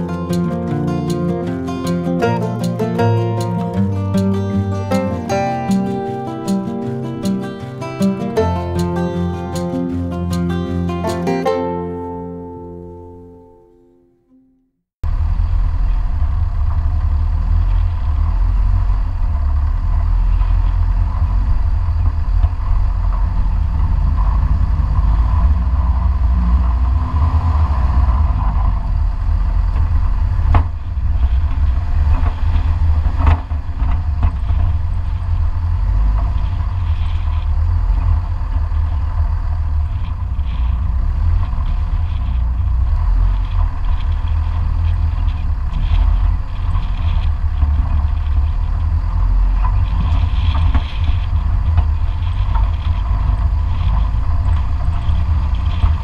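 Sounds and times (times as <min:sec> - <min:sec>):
jeep engine and tyres rumbling: 0:00.0 - 0:13.7, 0:15.0 - 0:56.0.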